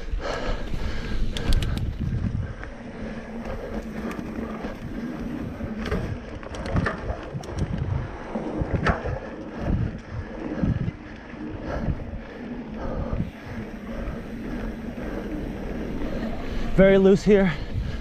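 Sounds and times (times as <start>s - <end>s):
bike clicking and rattling: 0.0s - 18.0s
tyre and wind noise: 0.0s - 18.0s.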